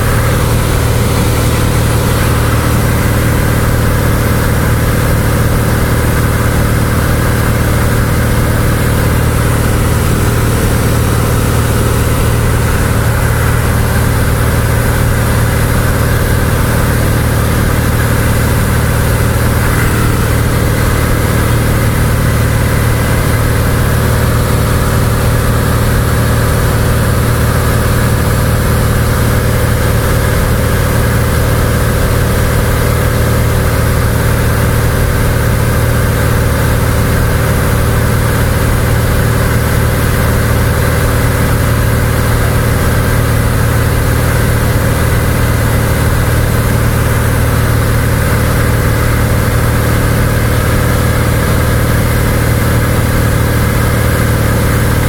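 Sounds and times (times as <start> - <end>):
airplane engine drone in cabin: 0.0 - 55.0.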